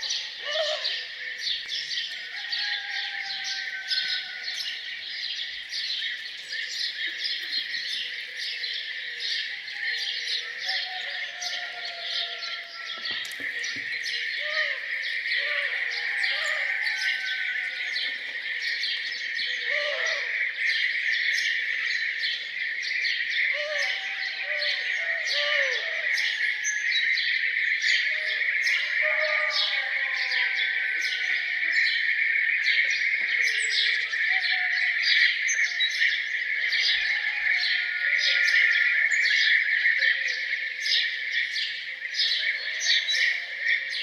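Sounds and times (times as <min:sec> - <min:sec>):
songbirds chirping and singing: 0:00.0 - 0:44.0.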